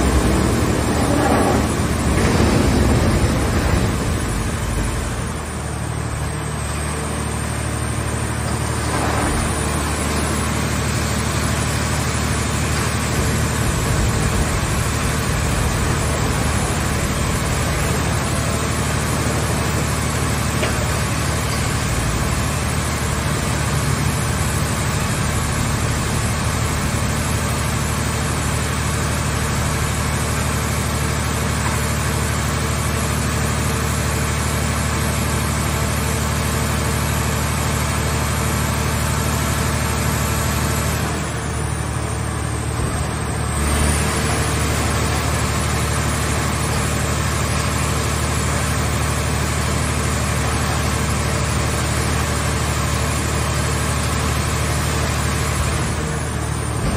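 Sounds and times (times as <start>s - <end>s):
hydraulic press machine drone: 0.0s - 56.9s.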